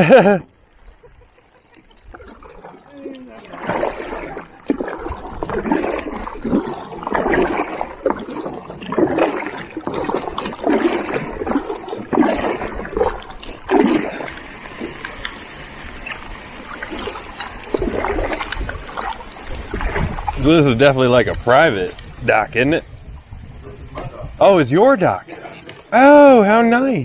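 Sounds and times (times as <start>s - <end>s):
paddle splashing through water: 0.0s - 24.4s, 25.2s - 26.6s
steady water noise: 0.0s - 27.0s.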